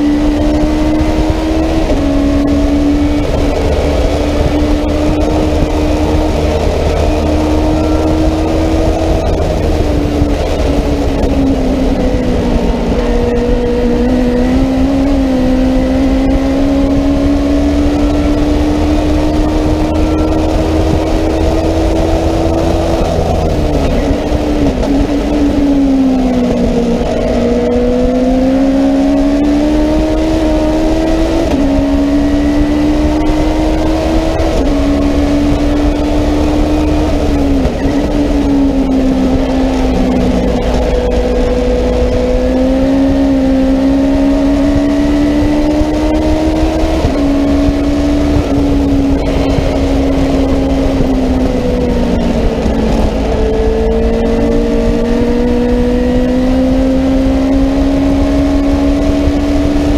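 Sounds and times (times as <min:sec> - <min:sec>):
gear changes: 0:00.0 - 0:59.9
race car engine at high revs: 0:00.0 - 0:59.9.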